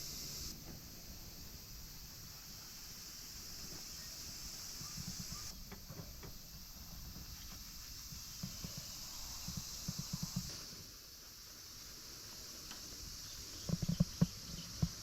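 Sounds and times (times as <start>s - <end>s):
high-pitched insect chirring: 0.0s - 5.8s, 6.4s - 15.0s.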